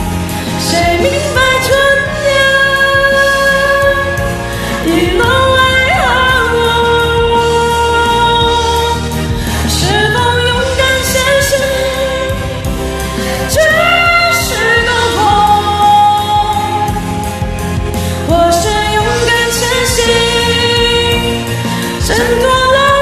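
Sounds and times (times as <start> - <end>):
karaoke backing track: 0.0 - 23.0
woman singing pop ballad: 0.0 - 23.0.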